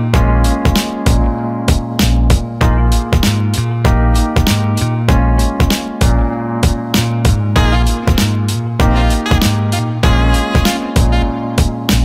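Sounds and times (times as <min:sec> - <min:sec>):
upbeat music with drum beat: 0:00.0 - 0:12.0.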